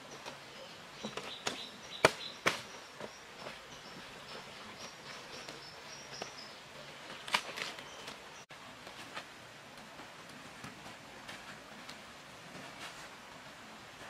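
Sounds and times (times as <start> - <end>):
leaves rustling and crackling: 0.0 - 14.0.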